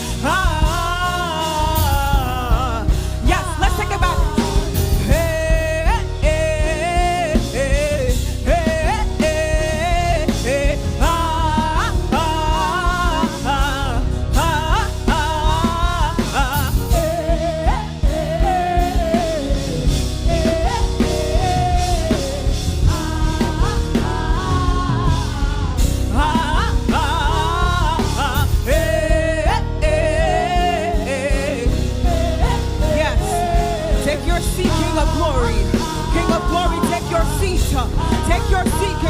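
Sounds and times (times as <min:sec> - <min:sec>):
gospel voices singing with band: 0:00.0 - 0:39.0.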